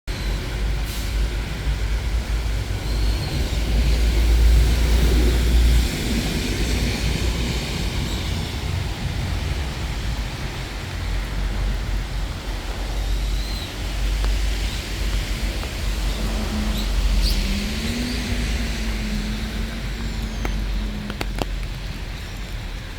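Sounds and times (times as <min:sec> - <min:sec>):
steady rain: 0:00.1 - 0:22.9.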